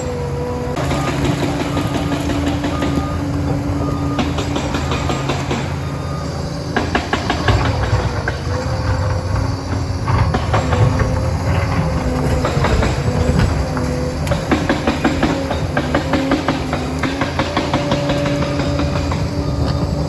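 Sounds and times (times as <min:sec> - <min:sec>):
diesel engine running under load: 0:00.0 - 0:20.0
steel tracks clanking: 0:00.0 - 0:20.0.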